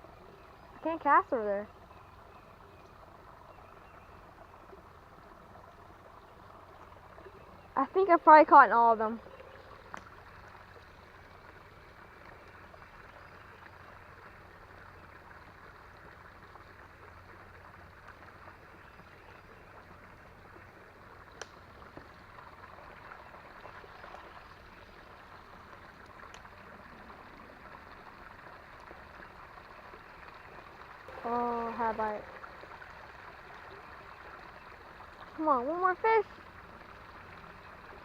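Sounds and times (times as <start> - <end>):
creek running water: 0.0 - 38.0.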